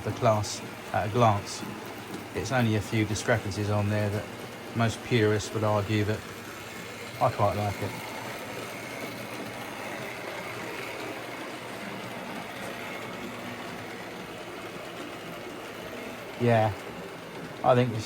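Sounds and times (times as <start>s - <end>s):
model train motor whirring: 0.0s - 18.0s.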